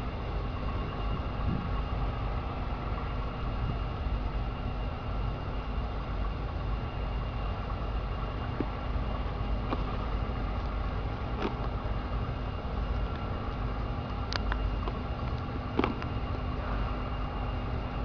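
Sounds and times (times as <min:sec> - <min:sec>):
machine humming with high whine: 0:00.0 - 0:18.0.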